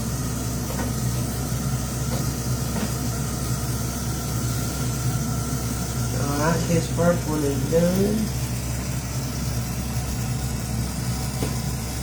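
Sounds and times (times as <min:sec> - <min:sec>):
food frying in hot oil: 0:00.0 - 0:12.0
low steady hum: 0:00.0 - 0:12.0.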